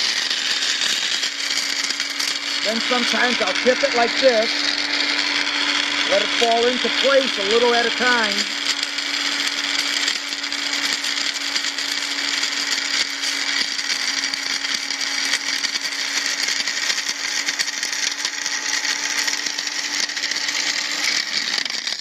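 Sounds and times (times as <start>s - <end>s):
blender motor hum: 0.0s - 22.0s.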